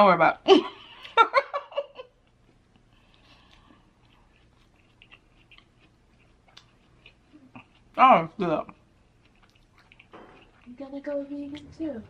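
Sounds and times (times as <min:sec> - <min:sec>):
person chewing food: 0:00.7 - 0:01.4, 0:02.0 - 0:11.7.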